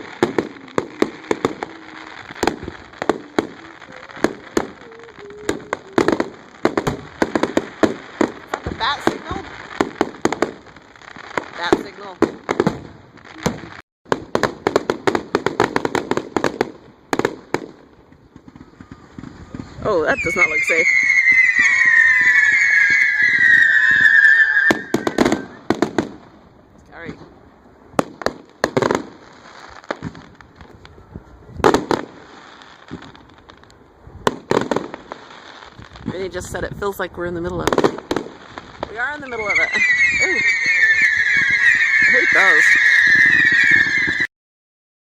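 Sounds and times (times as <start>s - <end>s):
loud firework bangs: 0.0s - 30.7s, 31.6s - 36.6s, 37.5s - 44.3s
fireworks crackling and popping: 0.0s - 44.3s.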